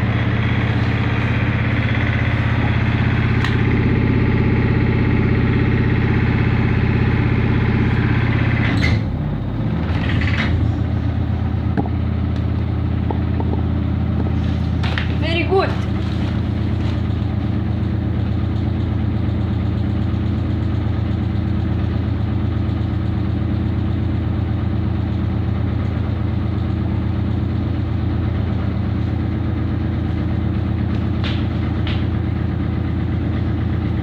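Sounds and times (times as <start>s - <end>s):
washing machine spin hum: 0.0s - 34.0s.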